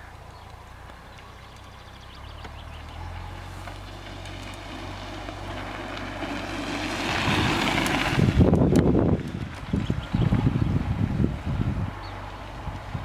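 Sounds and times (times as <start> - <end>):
bike tyres crunching gravel: 0.0 - 11.3.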